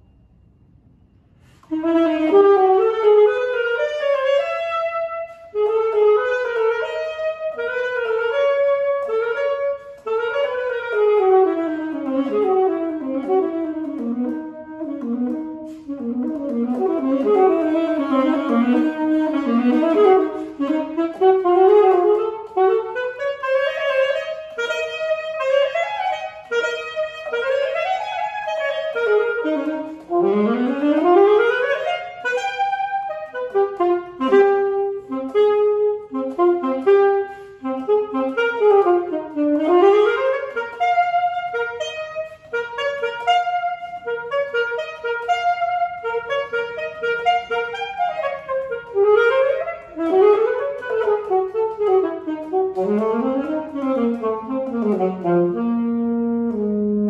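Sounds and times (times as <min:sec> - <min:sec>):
solo alto saxophone: 0:01.2 - 0:57.0.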